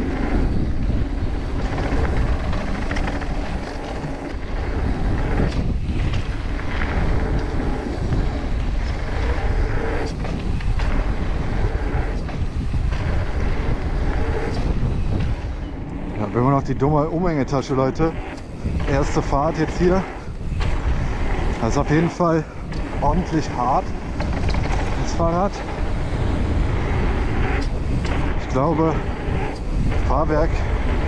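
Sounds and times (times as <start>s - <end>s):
bike knocks and rattles: 0.0s - 15.9s, 18.4s - 31.0s
bike tyres rolling on gravel: 0.0s - 31.0s.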